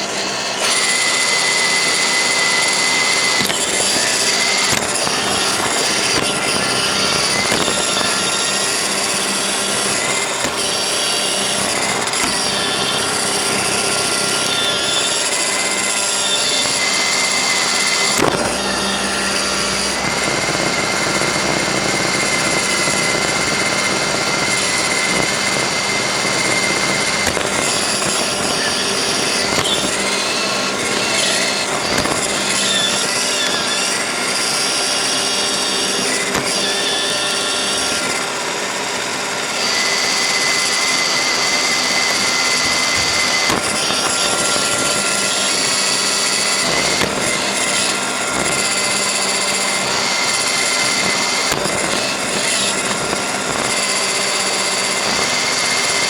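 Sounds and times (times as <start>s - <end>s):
high whine: 0.0s - 56.0s
robot vacuum whirring: 0.0s - 56.0s.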